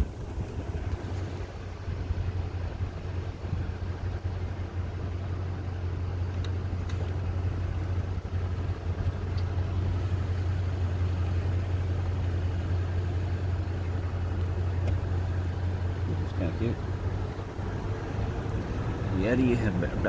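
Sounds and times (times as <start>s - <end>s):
car engine hum: 0.0s - 20.0s
road noise: 0.0s - 20.0s.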